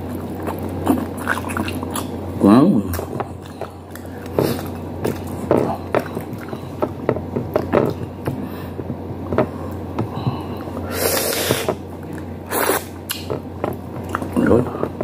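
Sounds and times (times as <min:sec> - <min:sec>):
man chewing and lip-smacking: 0:00.0 - 0:15.0.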